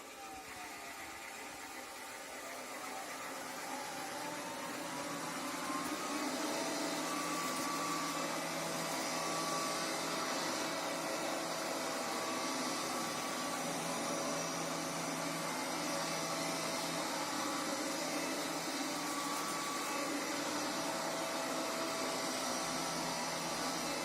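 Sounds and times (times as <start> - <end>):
faint whining tones: 0.0 - 24.0
robot vacuum cleaner whirring: 0.0 - 24.0.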